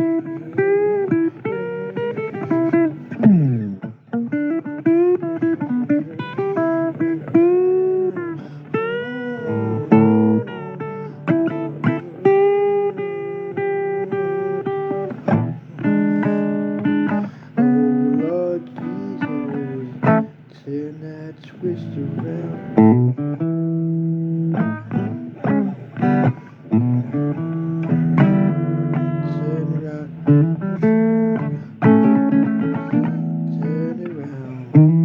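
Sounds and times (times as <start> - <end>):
blues guitar playing: 0.0 - 35.0.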